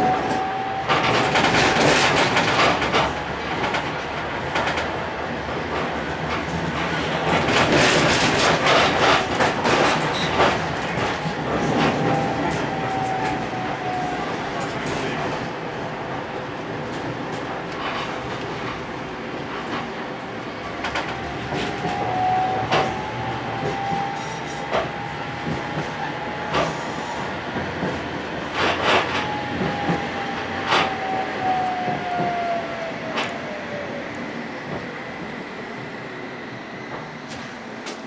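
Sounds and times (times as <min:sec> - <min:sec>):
wheels clacking on rail joints: 0:00.0 - 0:15.5, 0:16.8 - 0:33.6
tram rolling rumble: 0:00.0 - 0:38.0.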